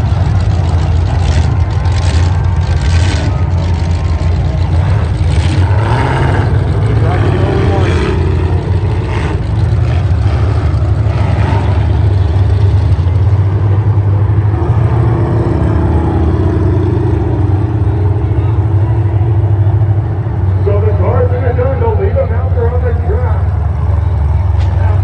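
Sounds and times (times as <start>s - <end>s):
car engines running loud: 0.0s - 25.0s.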